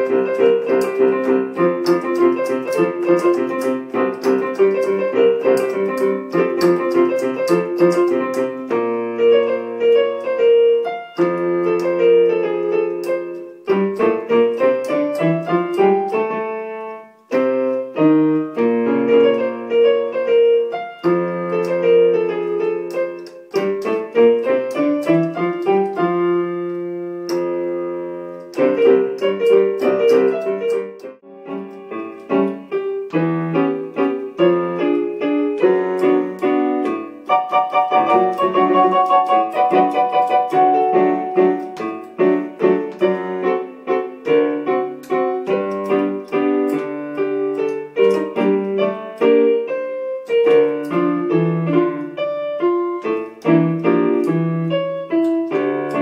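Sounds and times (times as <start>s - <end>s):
electronic keyboard piano melody: 0.0s - 56.0s.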